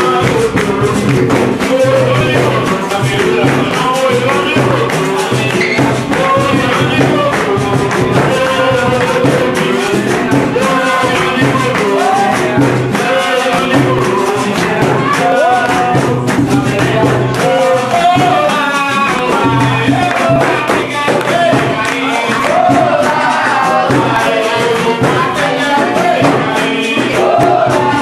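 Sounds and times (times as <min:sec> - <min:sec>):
call-and-response singing: 0:00.0 - 0:28.0
rattling percussion: 0:00.0 - 0:28.0.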